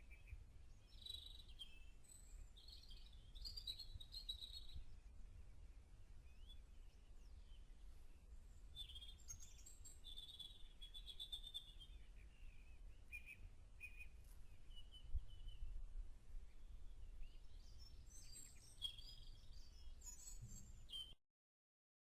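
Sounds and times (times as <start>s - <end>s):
small birds chirping: 0.0s - 21.2s.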